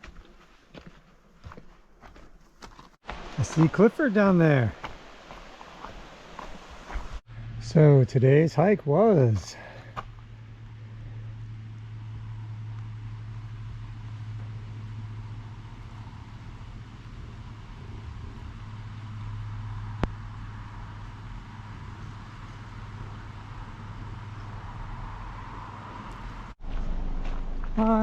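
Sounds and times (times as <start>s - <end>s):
vehicle engine humming: 4.4s - 28.0s.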